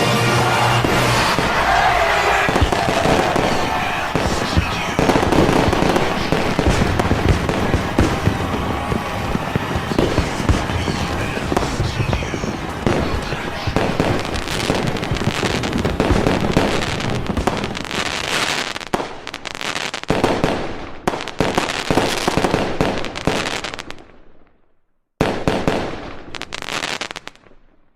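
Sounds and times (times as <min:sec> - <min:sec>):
fireworks crackling and banging: 0:00.0 - 0:24.3, 0:25.2 - 0:27.6.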